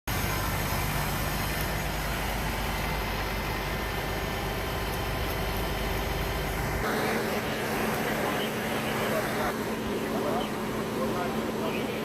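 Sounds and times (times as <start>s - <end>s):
outdoor noise: 0.0s - 12.0s
diesel engine idling: 0.1s - 12.0s.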